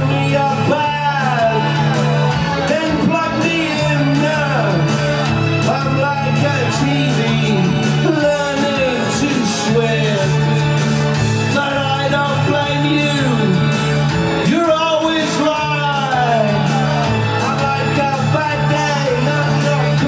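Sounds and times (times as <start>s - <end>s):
held bass notes: 0.0s - 20.0s
live rock band playing: 0.0s - 20.0s
person singing: 0.0s - 20.0s.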